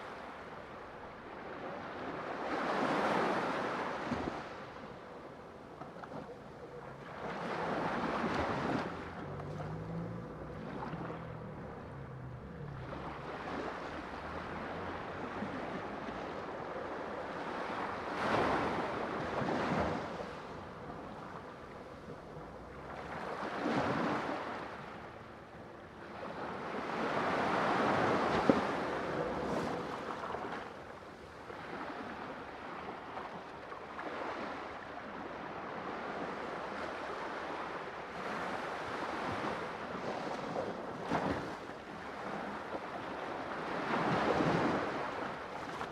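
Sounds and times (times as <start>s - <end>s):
sea waves breaking: 0.0s - 45.9s.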